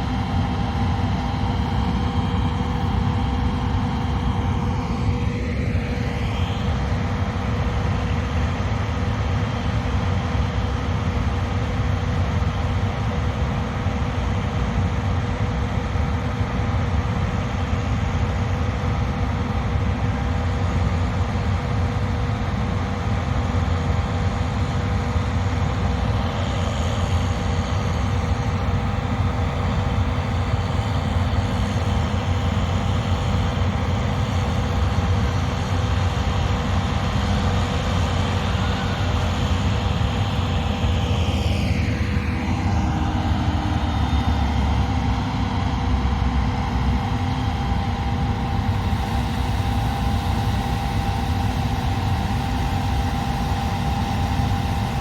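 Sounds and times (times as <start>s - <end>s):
machinery whine: 0.0s - 13.4s, 17.7s - 55.0s.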